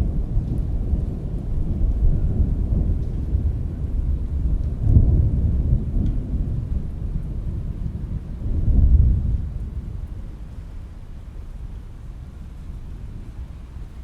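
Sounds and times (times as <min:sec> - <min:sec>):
heavy rain: 0:00.0 - 0:14.0
rolling thunder: 0:00.0 - 0:14.0.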